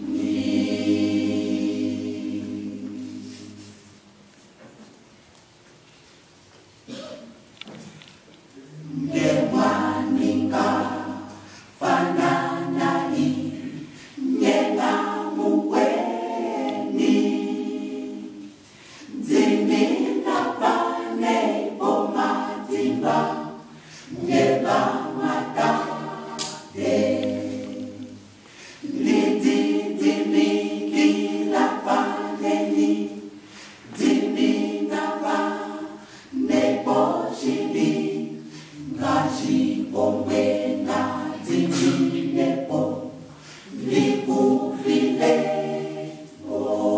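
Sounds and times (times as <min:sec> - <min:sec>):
mixed choir singing a cappella: 0:00.0 - 0:04.1, 0:08.7 - 0:46.9.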